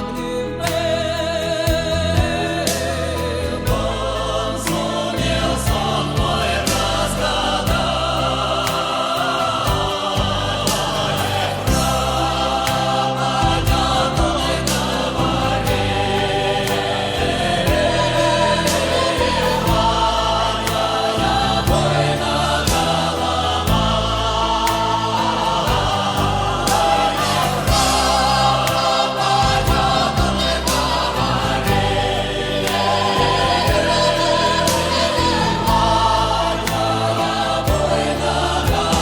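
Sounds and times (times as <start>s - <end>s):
bass line: 0.0s - 39.0s
choir-like voices: 0.0s - 39.0s.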